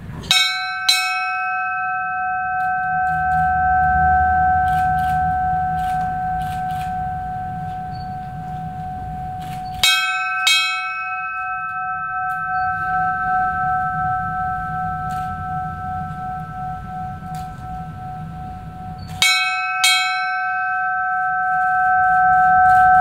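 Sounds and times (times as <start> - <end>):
ship's bell ringing: 0.0 - 23.0.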